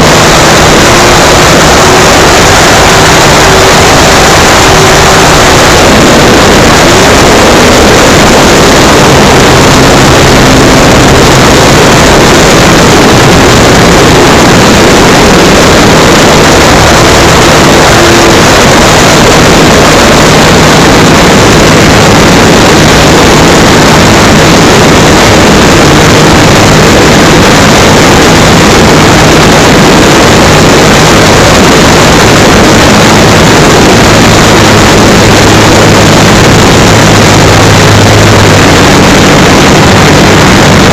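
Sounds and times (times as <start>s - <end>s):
electric motor hum: 0.0s - 40.9s
wind and propeller rushing: 0.0s - 40.9s.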